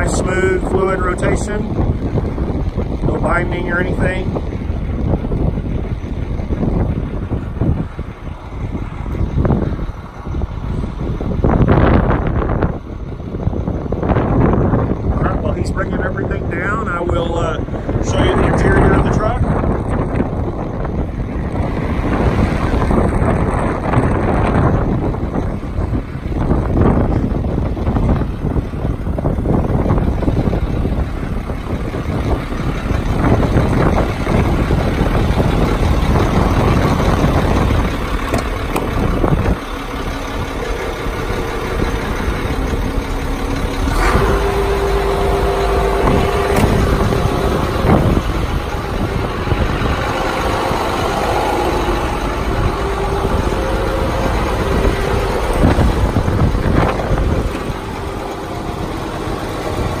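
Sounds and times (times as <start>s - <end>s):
steady whining tones: 0.0s - 60.0s
truck engine running: 0.0s - 60.0s.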